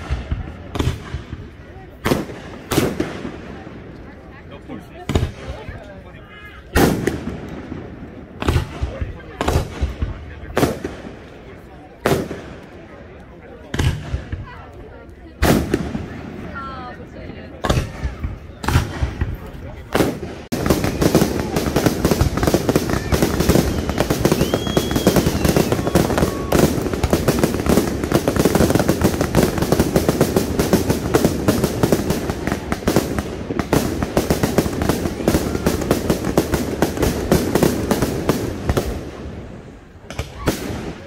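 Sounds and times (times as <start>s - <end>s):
fireworks bangs and crackle: 0.0s - 41.0s.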